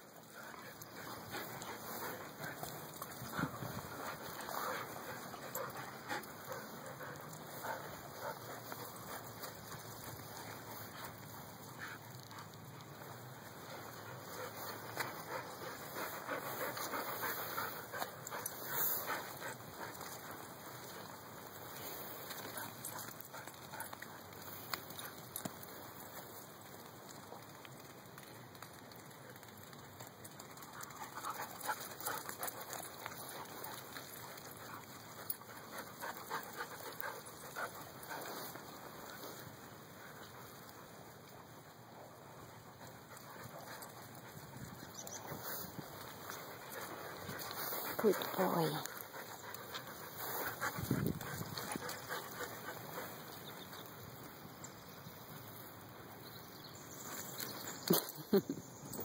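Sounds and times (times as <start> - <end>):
dogs panting: 0.0 - 55.9
dogs scuffling on grass: 0.0 - 59.0.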